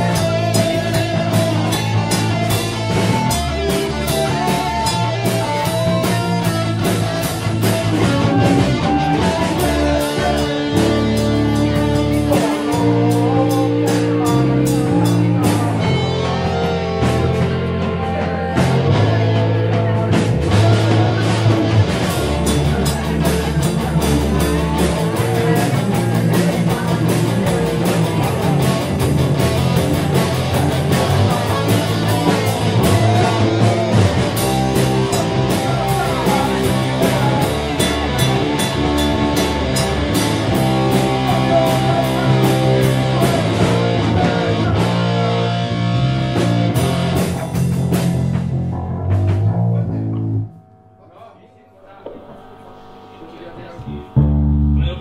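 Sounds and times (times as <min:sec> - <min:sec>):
person singing: 0:00.0 - 0:45.8
drum kit: 0:00.0 - 0:51.1
electric guitars: 0:00.0 - 0:51.1, 0:51.9 - 0:55.0.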